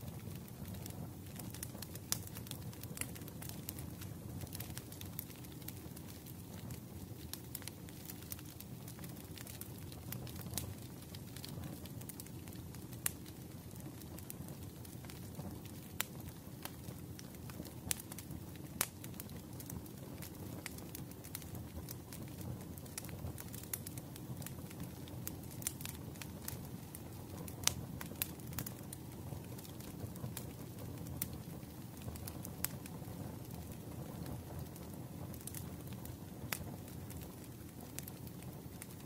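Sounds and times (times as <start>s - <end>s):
fire popping and snapping: 0.0s - 39.0s
wood fire crackling: 0.0s - 39.0s.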